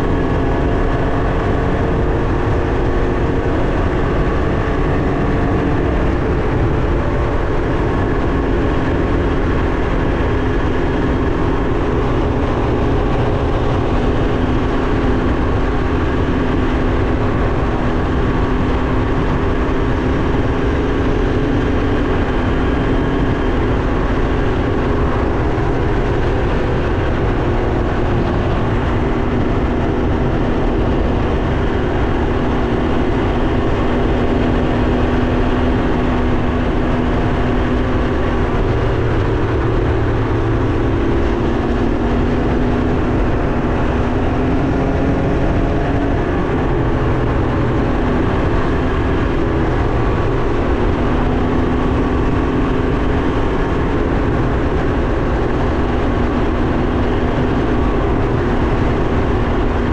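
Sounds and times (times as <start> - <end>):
motorcycle engine cruising: 0.0 - 59.9
road noise: 0.0 - 59.9
wind noise: 0.0 - 59.9.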